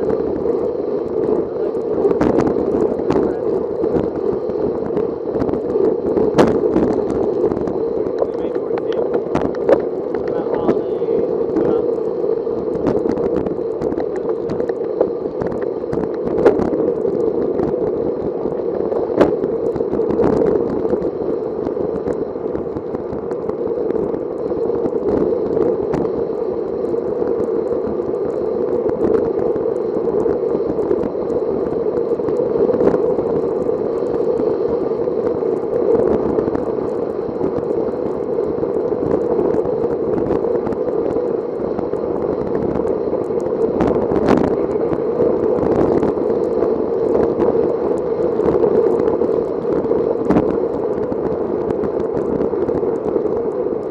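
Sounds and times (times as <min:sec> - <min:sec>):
bicycle rushing noise: 0:00.0 - 0:53.9.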